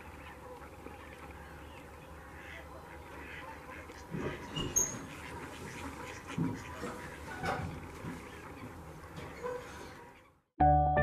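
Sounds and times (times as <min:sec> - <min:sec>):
distant chorus of duck calls: 0:00.0 - 0:10.4.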